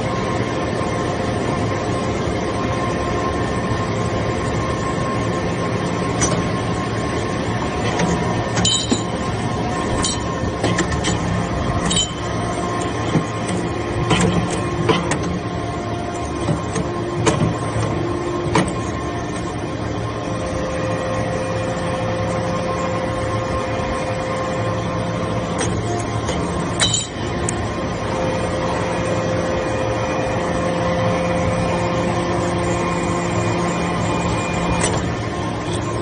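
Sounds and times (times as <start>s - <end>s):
hydraulic pump whine: 0.0s - 36.0s
hydraulic press humming: 5.8s - 36.0s.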